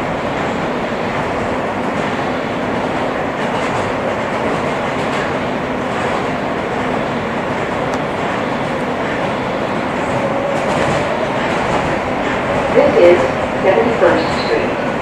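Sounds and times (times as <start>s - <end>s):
subway wheels rumbling on rail: 0.0s - 15.0s.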